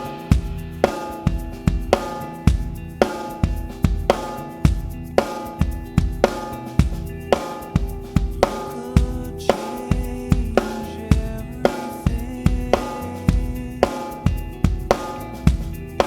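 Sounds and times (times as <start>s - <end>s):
drum kit playing a groove: 0.0s - 16.0s.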